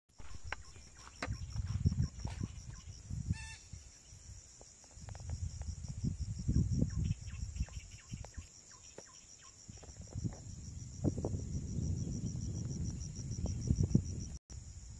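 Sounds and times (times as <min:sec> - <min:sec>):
insects droning: 0:00.1 - 0:14.9
wind buffeting microphone: 0:00.2 - 0:08.4, 0:09.6 - 0:14.4.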